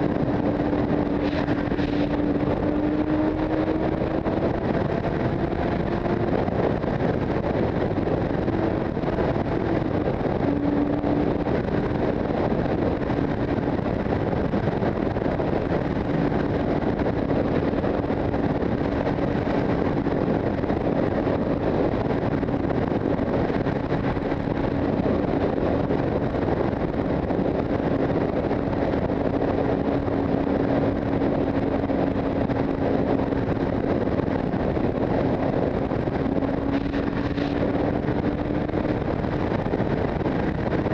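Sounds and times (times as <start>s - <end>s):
motorcycle engine cruising: 0.0s - 40.9s
wind rushing over microphone: 0.0s - 40.9s.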